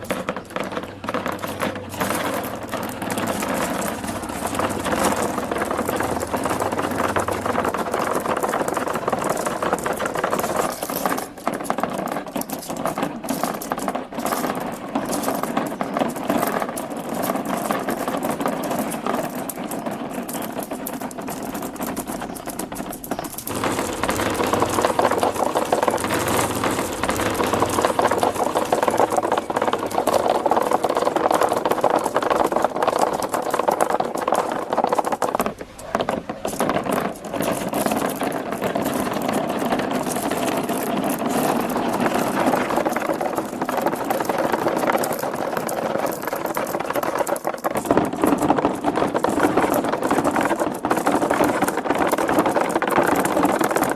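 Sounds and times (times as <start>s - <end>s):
marbles clattering down plastic track: 0.0s - 53.9s.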